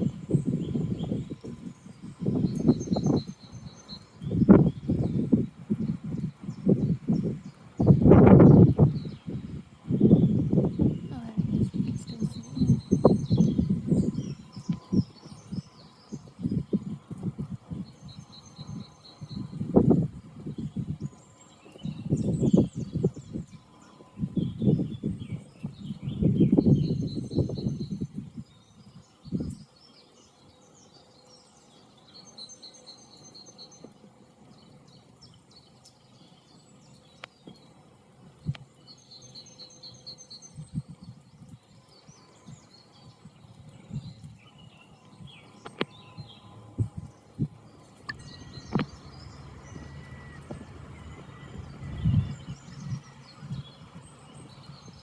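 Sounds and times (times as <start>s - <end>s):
wind buffeting microphone: 0.0s - 30.9s, 33.7s - 55.0s
songbirds trilling: 0.0s - 55.0s.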